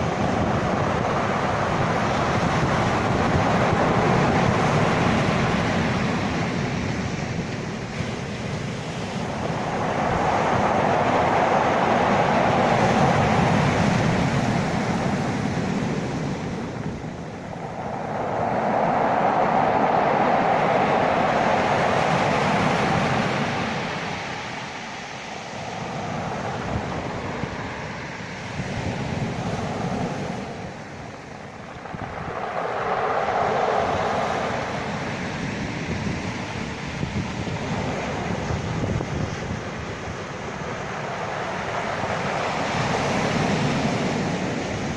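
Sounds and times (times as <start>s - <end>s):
sea waves breaking: 0.0s - 44.9s.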